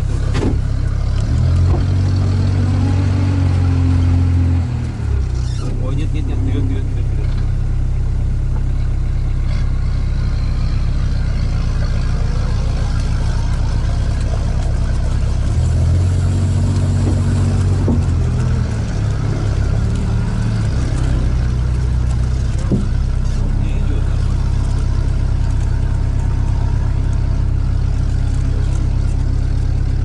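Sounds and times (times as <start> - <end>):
all-terrain vehicle engine running: 0.0 - 30.0.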